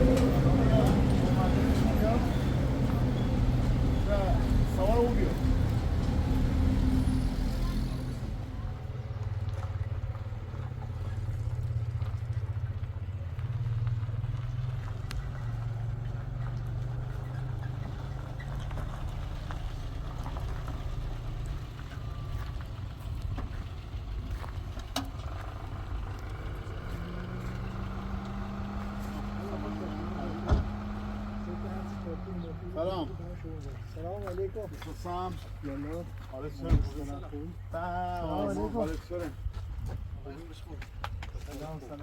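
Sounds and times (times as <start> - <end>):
vehicle engine droning: 0.0 - 42.0.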